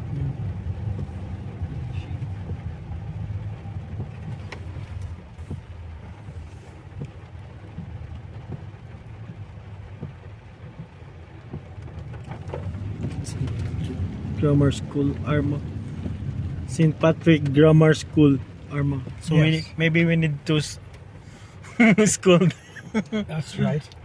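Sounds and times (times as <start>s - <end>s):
car road rumble inside cabin: 0.0s - 24.0s.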